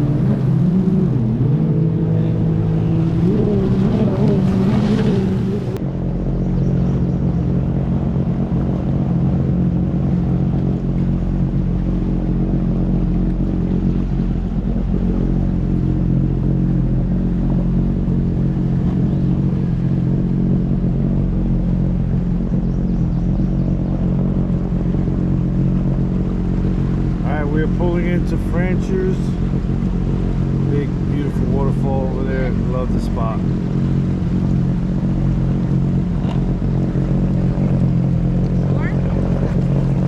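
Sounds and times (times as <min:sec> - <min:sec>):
jet ski engine droning: 0:00.0 - 0:40.0.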